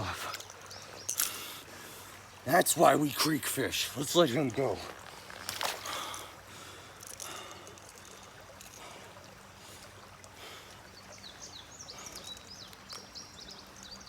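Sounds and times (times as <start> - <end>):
creek water running: 0.0 - 14.0
faint water splashes: 0.0 - 14.0.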